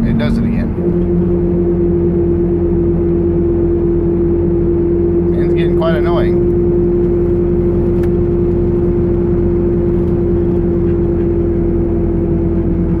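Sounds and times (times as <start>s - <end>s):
engine whine: 0.0s - 13.0s
low engine rumble: 0.0s - 13.0s.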